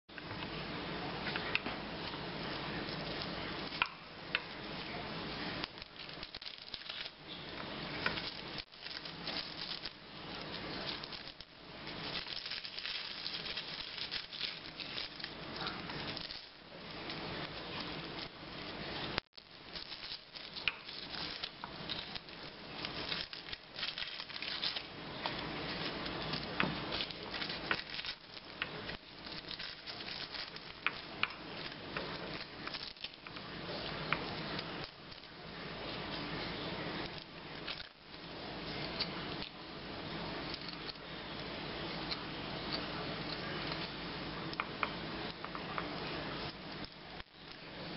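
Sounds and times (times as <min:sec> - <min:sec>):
garlic skins crackling: 0:01.3 - 0:47.7.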